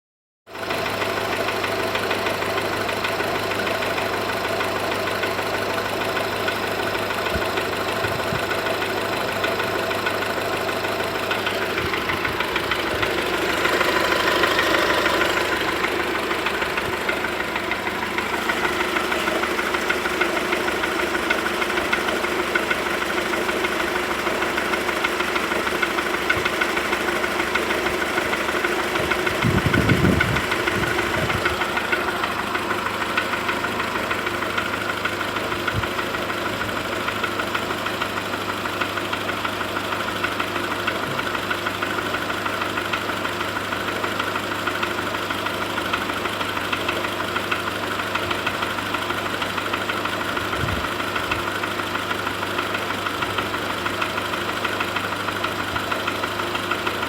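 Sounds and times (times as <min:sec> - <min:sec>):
car engine running: 0:00.6 - 0:57.0.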